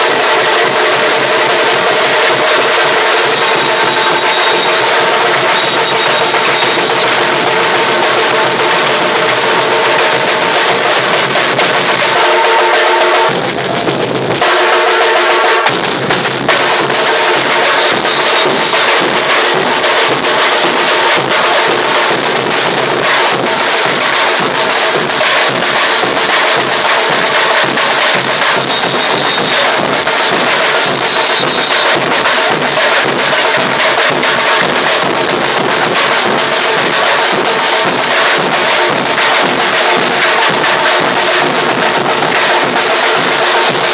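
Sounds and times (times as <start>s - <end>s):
bass drums: 0.0s - 12.2s, 13.3s - 14.5s, 15.7s - 43.9s
snare drums: 0.0s - 43.9s.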